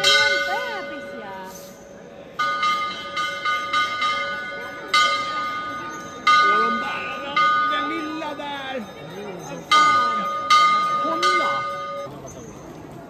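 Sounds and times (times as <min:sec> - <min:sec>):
metal bells ringing: 0:00.0 - 0:01.8, 0:02.4 - 0:12.9.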